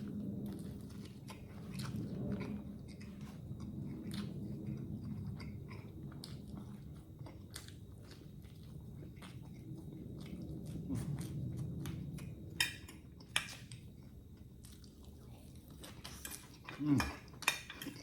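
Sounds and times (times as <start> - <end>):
low steady hum: 0.0 - 18.0
person chewing food: 0.0 - 18.0.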